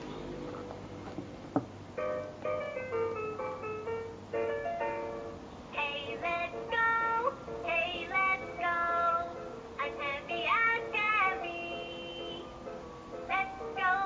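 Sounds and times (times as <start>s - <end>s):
children's song from sound book: 2.0s - 14.0s.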